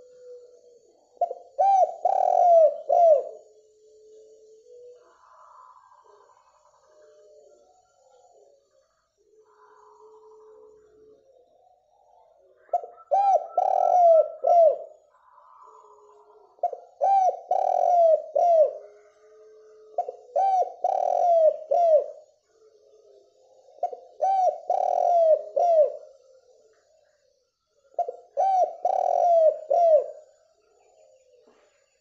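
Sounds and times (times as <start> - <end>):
dove cooing: 0.0 - 26.9, 27.8 - 31.8.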